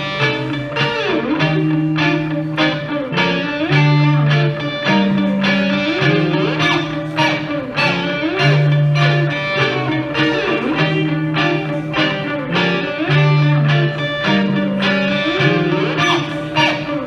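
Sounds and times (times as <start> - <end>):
electric guitar with effects: 0.0 - 17.0.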